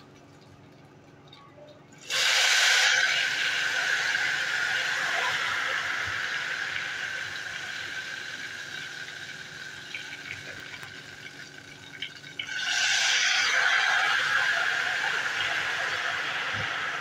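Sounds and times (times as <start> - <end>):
batter sizzling in hot fat: 2.0 - 17.0.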